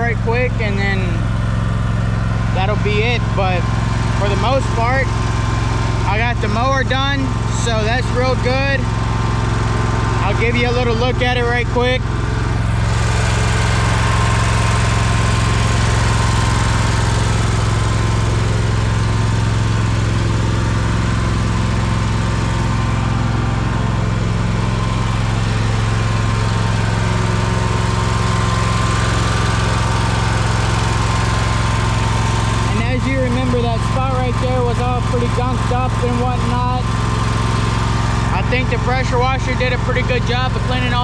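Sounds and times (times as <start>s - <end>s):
small gasoline engine running: 0.0s - 41.0s.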